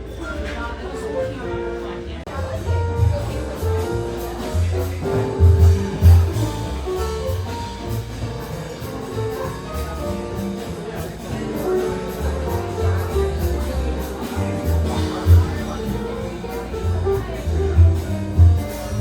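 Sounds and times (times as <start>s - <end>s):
bass line: 0.0s - 19.0s.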